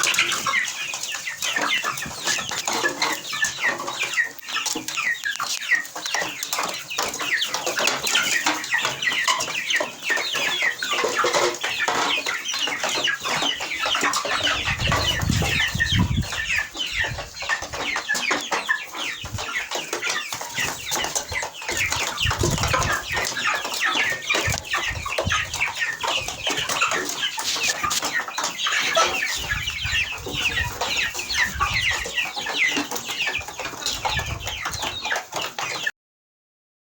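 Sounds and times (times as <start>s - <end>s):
chicks peeping: 0.0s - 35.9s.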